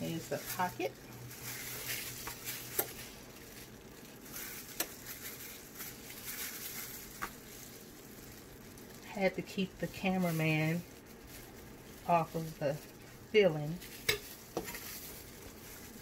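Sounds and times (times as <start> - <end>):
plastic gloves crinkling: 0.0 - 16.0.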